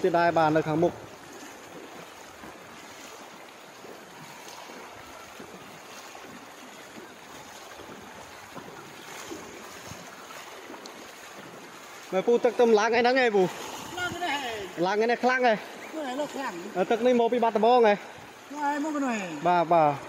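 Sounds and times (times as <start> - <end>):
rushing floodwater: 0.0 - 20.0.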